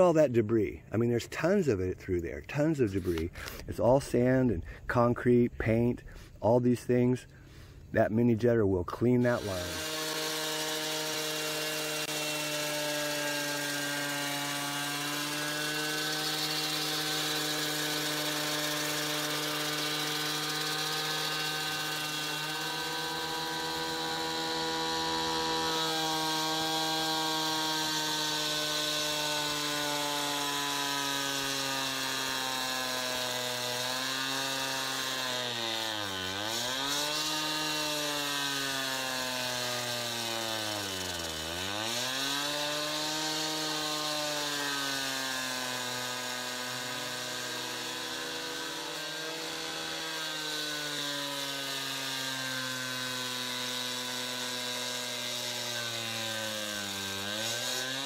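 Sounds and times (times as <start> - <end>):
concrete saw cutting concrete: 8.4 - 58.0.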